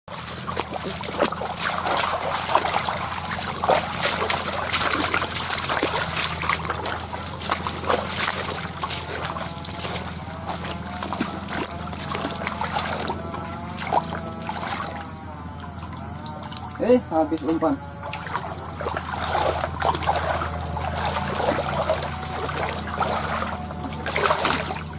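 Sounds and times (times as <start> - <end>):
feet wading through water: 0.1 - 24.9
water splashing and sloshing: 0.1 - 24.9.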